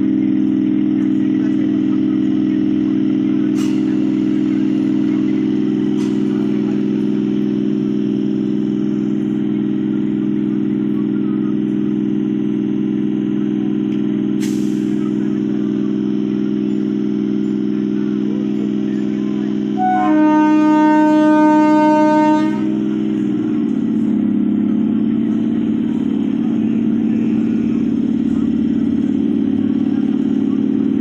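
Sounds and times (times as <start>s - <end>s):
locomotive engine idling: 0.0s - 31.0s.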